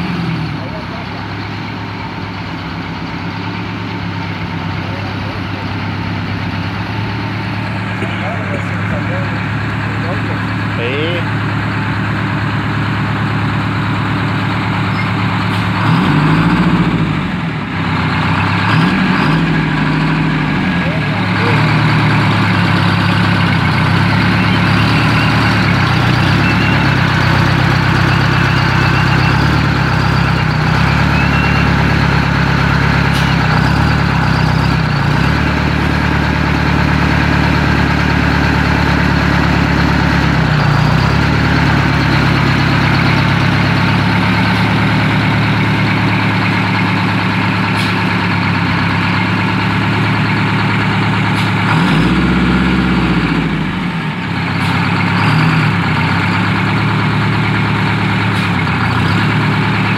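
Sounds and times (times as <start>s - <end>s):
bus engine revving: 0.0s - 59.9s
diesel bus engine idling: 0.0s - 59.9s.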